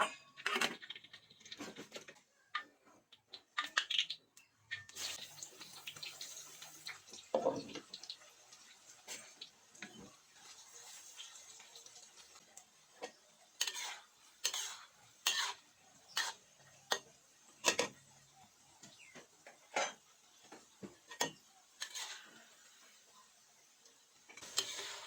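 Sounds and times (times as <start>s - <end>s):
utensil stirring food in pot: 0.0s - 25.0s.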